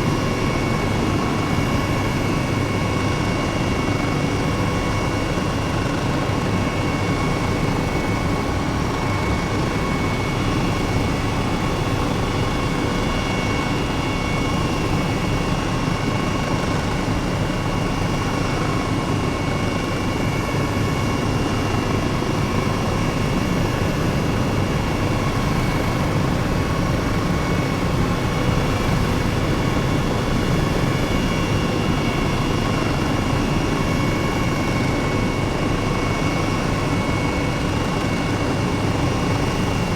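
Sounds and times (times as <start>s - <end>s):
helicopter droning in flight: 0.0s - 39.9s.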